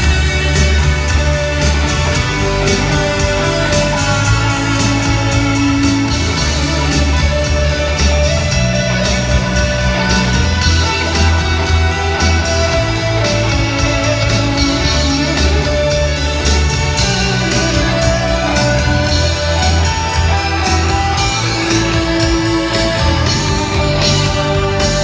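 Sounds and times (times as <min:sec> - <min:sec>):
cymbals ticking: 0:00.0 - 0:25.0
rock band playing live: 0:00.0 - 0:25.0.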